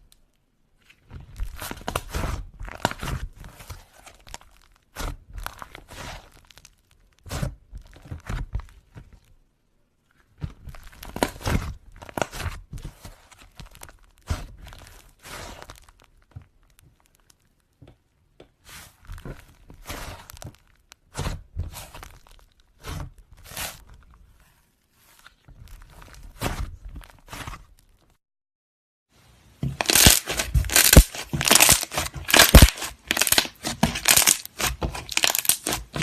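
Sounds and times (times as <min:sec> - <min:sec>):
slime crackling and tearing: 0:00.0 - 0:09.2, 0:10.3 - 0:17.8, 0:18.7 - 0:24.4, 0:25.0 - 0:28.2, 0:29.6 - 0:36.0.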